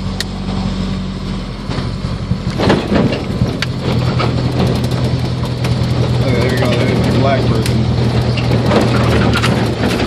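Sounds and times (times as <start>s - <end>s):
loud car engine without exhaust: 0.0s - 10.0s.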